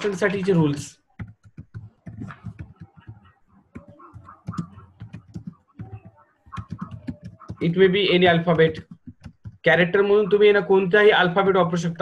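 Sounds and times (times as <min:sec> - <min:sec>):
keyboard typing: 0:00.0 - 0:09.7.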